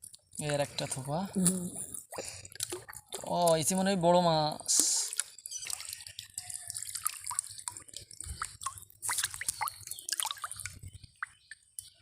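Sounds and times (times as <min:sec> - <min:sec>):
water dripping and splashing: 0:01.9 - 0:12.0.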